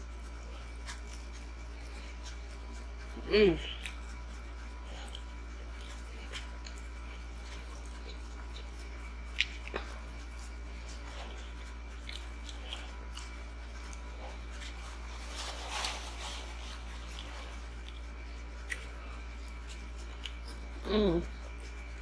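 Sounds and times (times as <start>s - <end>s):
person chewing crunchy food: 0.0s - 22.0s
steady low hum: 0.0s - 22.0s.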